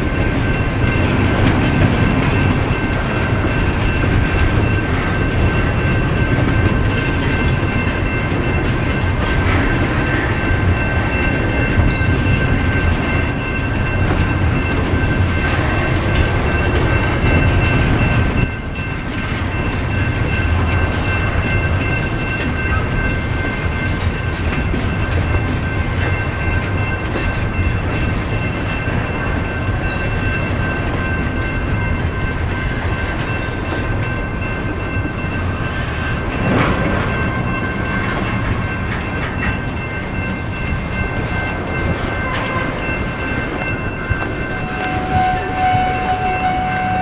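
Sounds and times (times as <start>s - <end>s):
crossing bells ringing: 0.0s - 47.0s
freight train wheels rumbling: 0.0s - 47.0s
rail joint clicks: 0.0s - 47.0s.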